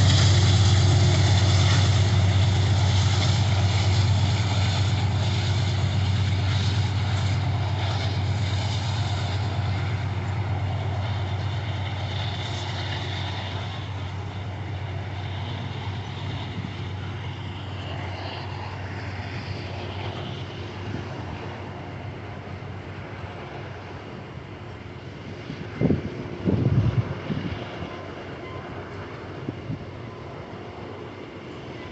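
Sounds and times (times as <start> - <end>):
diesel locomotive engine rumble: 0.0 - 31.9.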